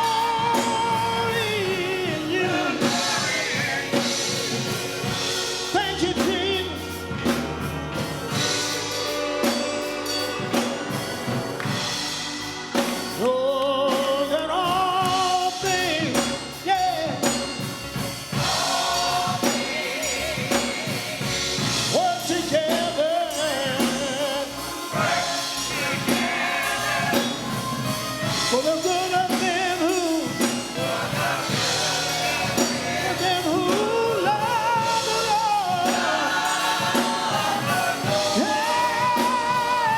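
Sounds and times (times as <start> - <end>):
band with drum kit: 0.0 - 39.9
gospel singers: 0.0 - 39.9.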